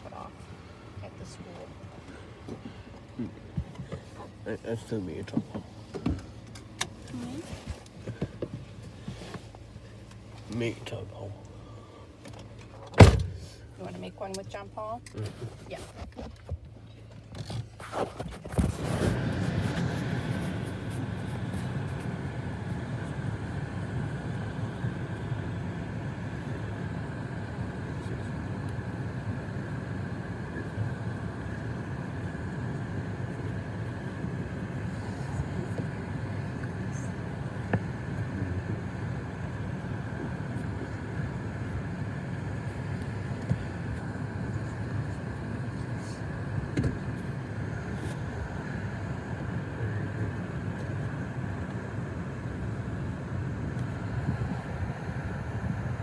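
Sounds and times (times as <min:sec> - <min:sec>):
car engine low rumble: 0:00.0 - 0:56.0.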